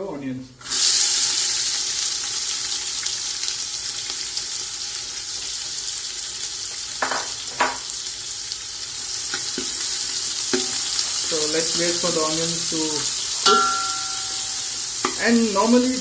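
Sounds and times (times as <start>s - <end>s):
onions sizzling in hot oil: 0.6s - 16.0s.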